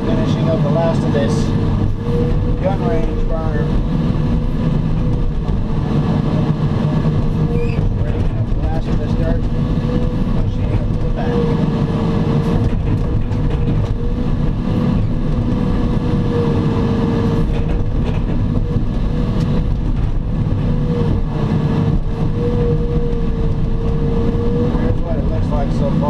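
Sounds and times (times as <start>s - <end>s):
diesel engine rumbling: 0.0s - 26.0s
steady engine whine: 0.0s - 26.0s.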